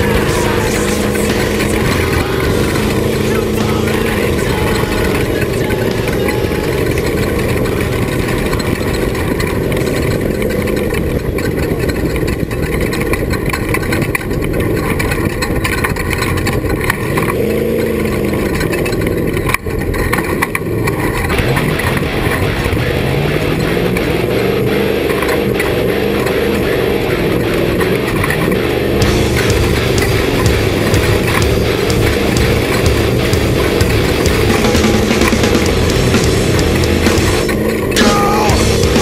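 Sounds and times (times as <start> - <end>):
loud steady rush of noise: 0.0 - 39.0
race vehicle engine running hard: 0.0 - 39.0.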